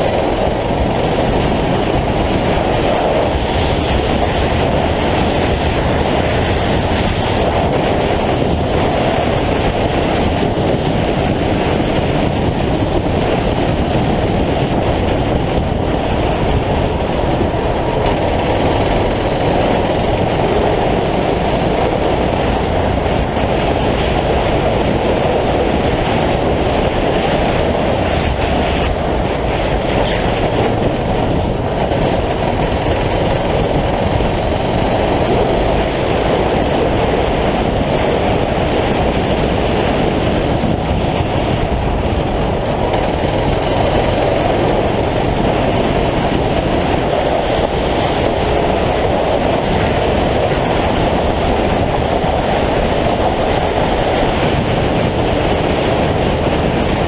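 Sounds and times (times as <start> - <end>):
kart engine running: 0.0 - 57.0
wind and road noise: 0.0 - 57.0.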